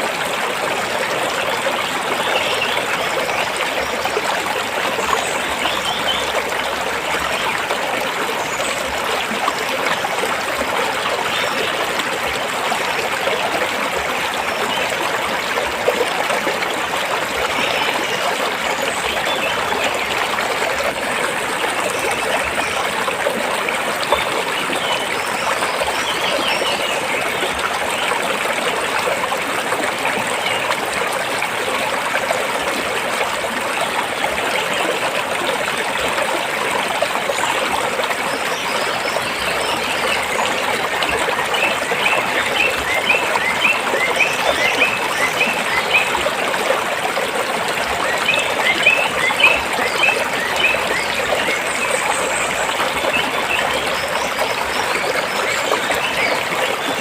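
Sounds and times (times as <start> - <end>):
stream water flowing over rocks: 0.0 - 57.0.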